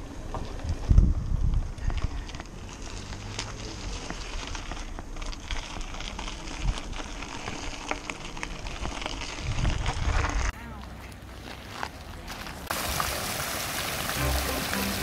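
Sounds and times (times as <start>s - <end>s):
bicycle tyres on gravel: 0.0s - 15.0s.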